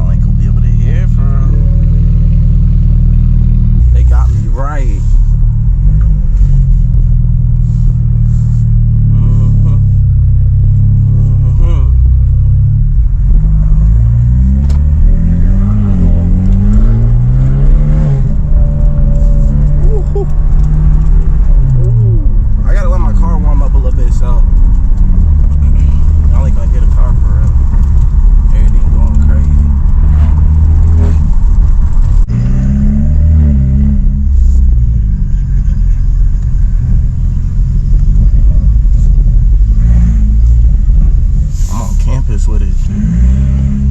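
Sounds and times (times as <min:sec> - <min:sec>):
car engine running loud: 0:00.0 - 0:43.9.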